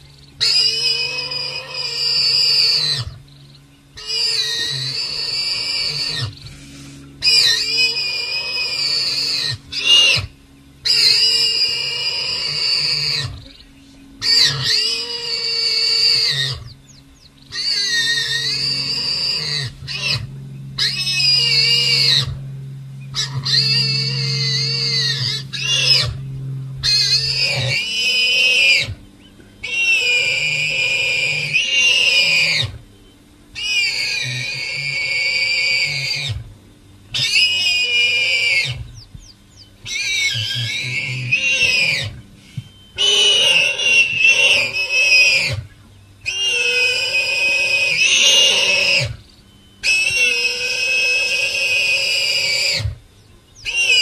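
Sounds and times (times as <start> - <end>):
warthog squealing: 0.4 - 3.2, 4.0 - 13.5, 14.2 - 16.8, 17.5 - 22.4, 23.1 - 26.2, 26.8 - 29.0, 29.6 - 32.8, 33.6 - 36.4, 37.1 - 39.0, 39.8 - 42.2, 43.0 - 49.2, 49.8 - 53.0, 53.6 - 54.0.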